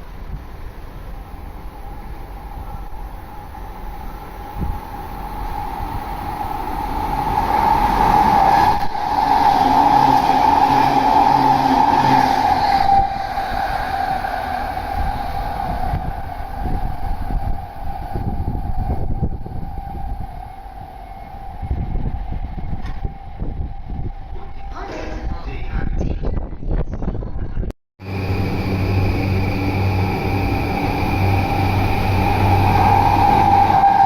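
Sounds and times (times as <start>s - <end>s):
electric train passing at speed: 0.0s - 26.0s, 28.0s - 34.0s
steady high tone: 1.8s - 25.7s, 28.0s - 34.0s.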